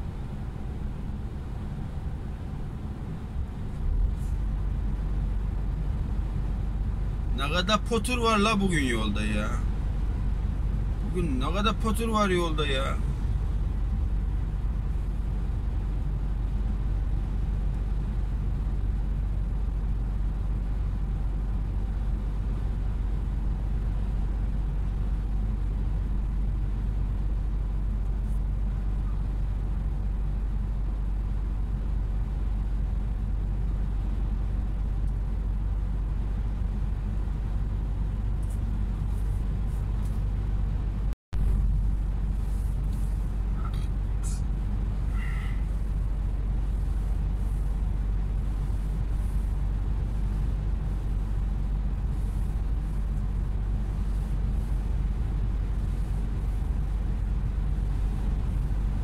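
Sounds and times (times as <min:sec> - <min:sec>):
vehicle cruising drone: 0:00.0 - 0:59.0.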